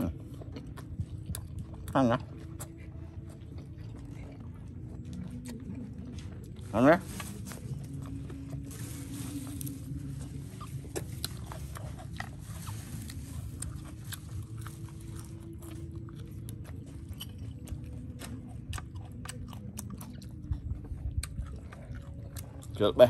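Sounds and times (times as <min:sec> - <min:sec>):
low rumble: 0:00.0 - 0:22.8
mouth clicks and crunches: 0:00.0 - 0:23.0
person chewing food: 0:00.0 - 0:23.0.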